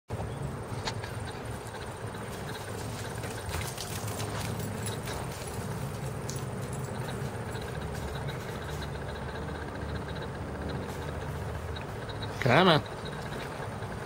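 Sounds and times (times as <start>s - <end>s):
low motor hum: 0.1s - 14.0s.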